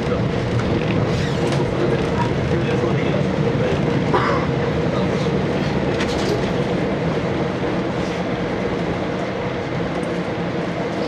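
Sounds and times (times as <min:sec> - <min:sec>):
diesel railcar engine: 0:00.0 - 0:11.0
wheel-on-rail rumble: 0:00.0 - 0:11.0.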